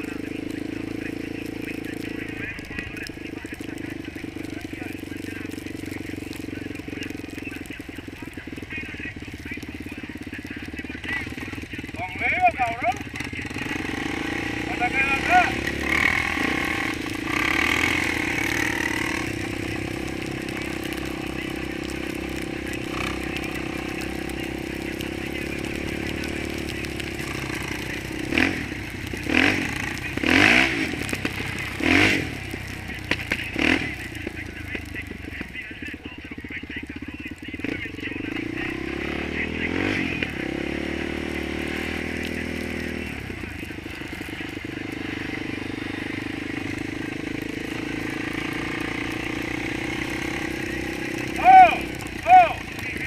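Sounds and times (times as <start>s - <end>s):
atv engine idling: 0.0s - 53.0s
engine throttle blips: 0.0s - 53.0s.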